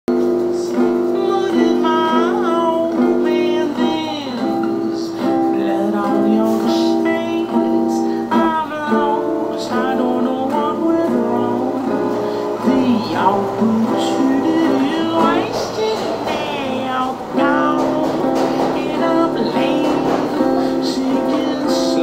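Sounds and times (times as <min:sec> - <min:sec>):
acoustic guitar strumming: 0:00.1 - 0:22.0
woman singing: 0:00.2 - 0:22.0.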